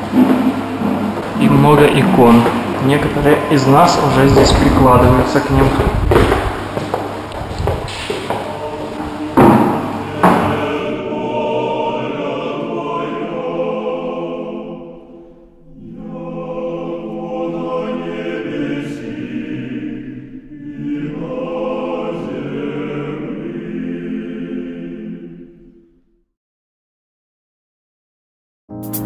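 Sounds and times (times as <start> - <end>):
choir singing: 0.0 - 6.0, 8.1 - 26.0.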